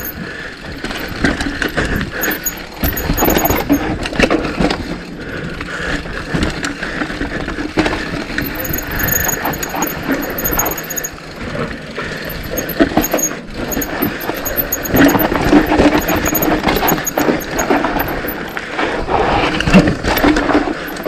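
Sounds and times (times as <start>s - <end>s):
bike chain clicking and rattling: 0.0s - 21.0s
bike tyres rolling over rough ground: 0.0s - 21.0s.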